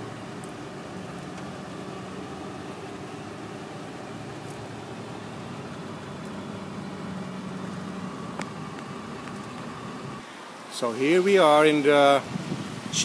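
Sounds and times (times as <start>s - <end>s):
car cabin road and engine hum: 0.0s - 13.0s.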